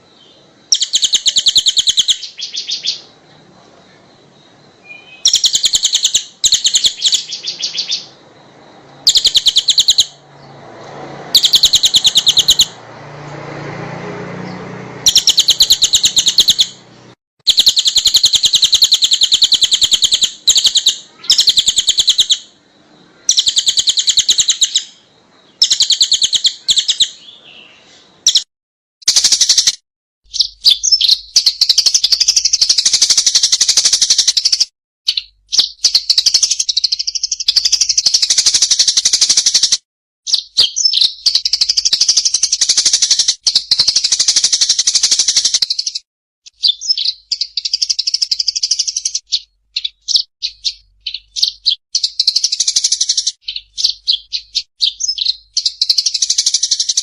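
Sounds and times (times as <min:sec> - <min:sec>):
songbird high-pitched trills: 0:00.0 - 0:12.8, 0:14.4 - 0:28.5, 0:29.1 - 0:57.0.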